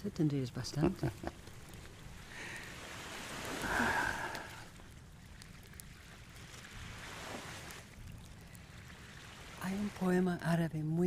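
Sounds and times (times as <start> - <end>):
waves washing on shore: 0.7 - 10.9.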